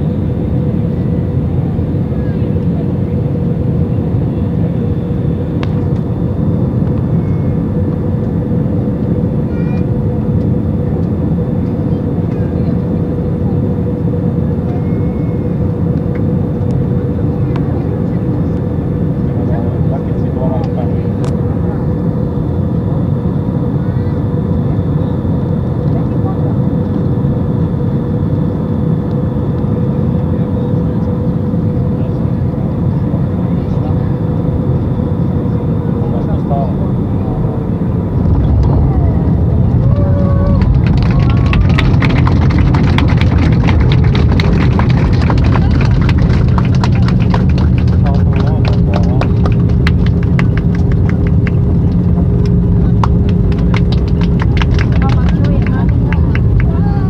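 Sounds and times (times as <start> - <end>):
jet engine and airflow roar: 0.0 - 57.0
steady hum: 0.0 - 57.0.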